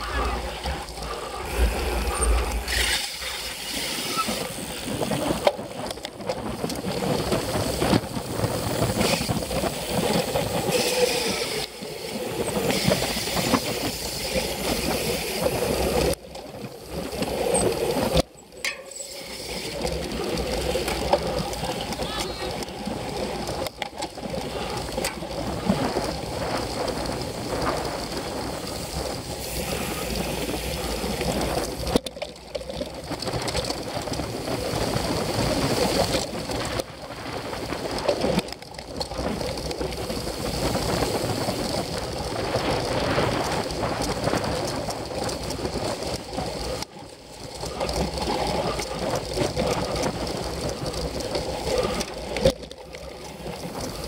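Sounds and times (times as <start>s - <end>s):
bike rattling over rough ground: 0.0s - 54.0s.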